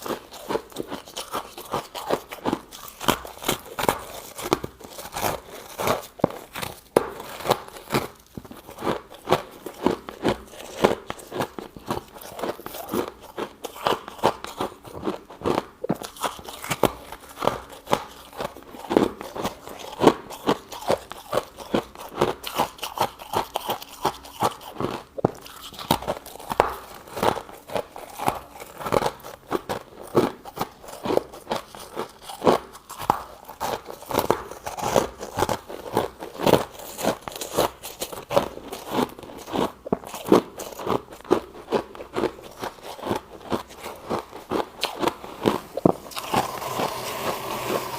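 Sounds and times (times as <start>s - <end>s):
crunching and chewing frost: 0.0s - 47.9s.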